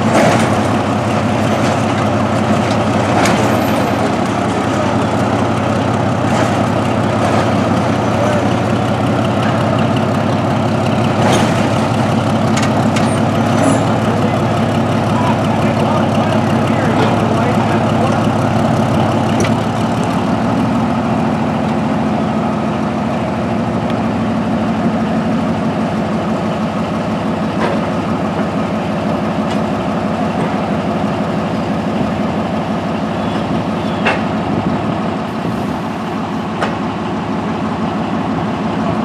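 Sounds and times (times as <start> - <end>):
crane engine idling: 0.0 - 39.0.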